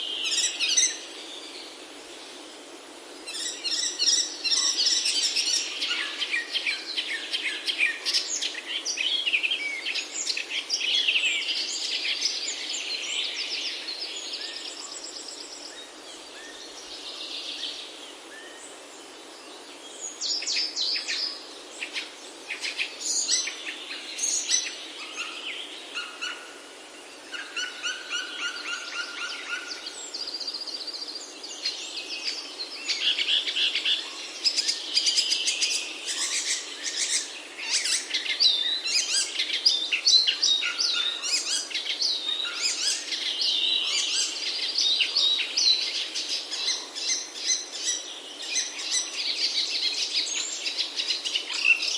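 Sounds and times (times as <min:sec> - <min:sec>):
steady background hiss: 0:00.0 - 0:51.9
birds chirping and trilling: 0:03.2 - 0:51.9.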